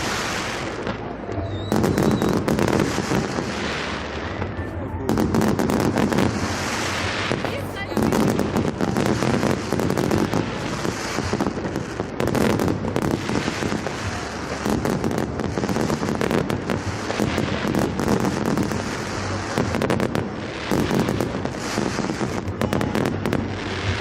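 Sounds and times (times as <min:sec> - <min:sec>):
fireworks popping and crackling: 0:00.0 - 0:24.0.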